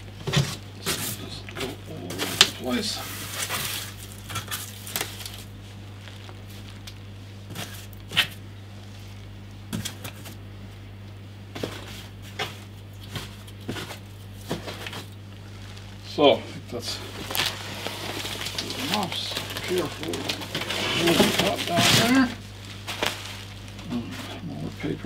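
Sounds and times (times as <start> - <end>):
bubble wrap and cardboard rustling: 0.0 - 10.4, 11.6 - 25.0
steady low hum: 0.0 - 25.0
crackles and light taps: 3.4 - 10.4, 11.0 - 16.0, 17.0 - 25.0.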